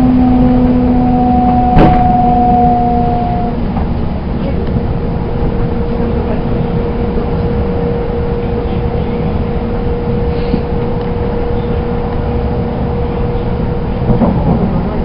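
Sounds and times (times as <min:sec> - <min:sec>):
constant steady hum: 0:00.0 - 0:15.0
train rumbling at speed: 0:00.0 - 0:15.0.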